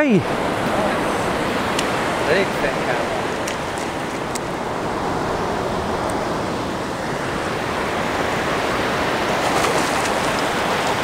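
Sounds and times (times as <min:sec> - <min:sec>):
surf washing up a beach: 0:00.0 - 0:11.0.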